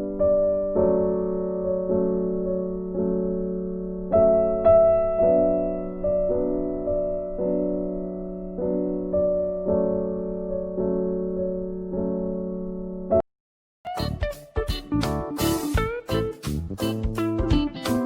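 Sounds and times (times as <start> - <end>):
gentle piano tune: 0.0 - 13.2, 13.9 - 18.0.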